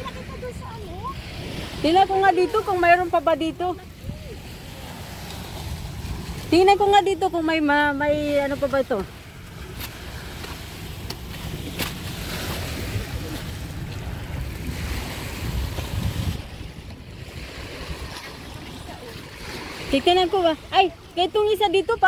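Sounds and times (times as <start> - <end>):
wind buffeting microphone: 0.0 - 21.1.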